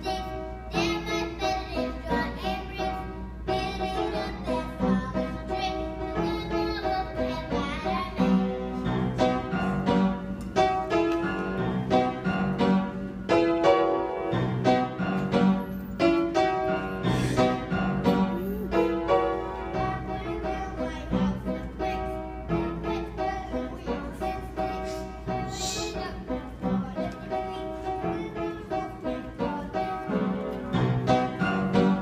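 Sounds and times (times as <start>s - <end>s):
piano playing instrumental tune: 0.0s - 32.0s.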